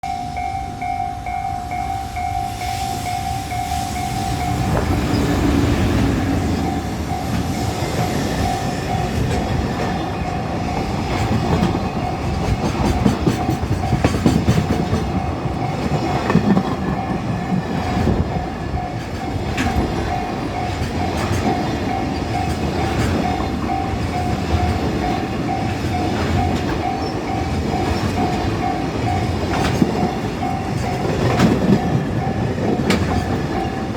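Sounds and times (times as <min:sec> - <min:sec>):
train wheels clattering on rails: 0:02.4 - 0:33.9.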